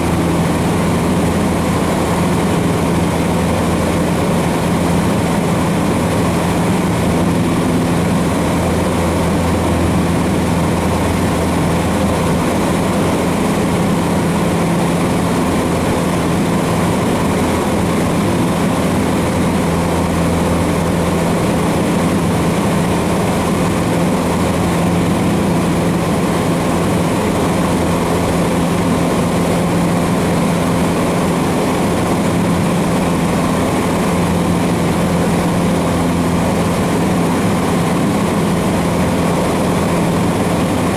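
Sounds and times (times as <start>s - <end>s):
propeller plane engine drone: 0.0s - 40.9s.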